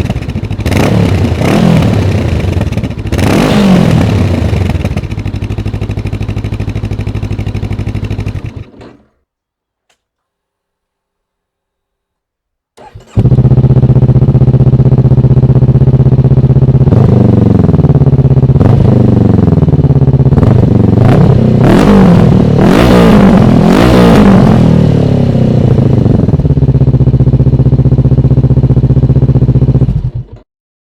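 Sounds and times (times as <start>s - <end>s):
motorcycle engine starting and revving: 0.0s - 9.2s, 12.8s - 30.5s.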